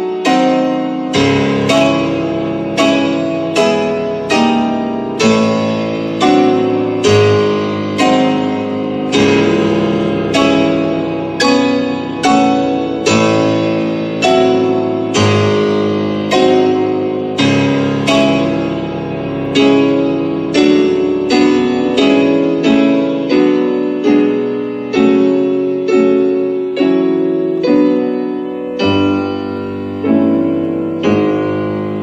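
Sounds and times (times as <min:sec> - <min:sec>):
piano chords: 0:00.0 - 0:32.0.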